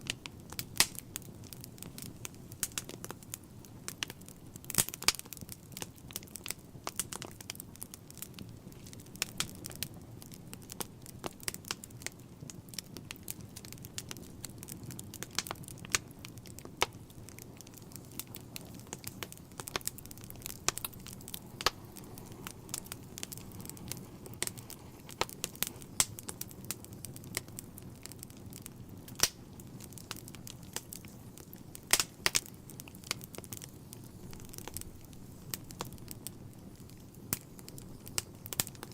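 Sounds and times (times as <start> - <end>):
low rumble of flame: 0.0 - 38.9
wood fire crackling and popping: 0.0 - 38.9.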